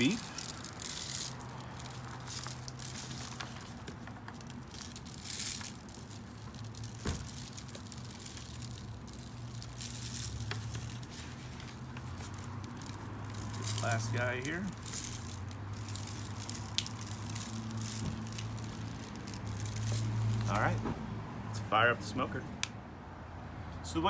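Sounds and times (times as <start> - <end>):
aluminium foil pan crinkling: 0.0 - 20.6.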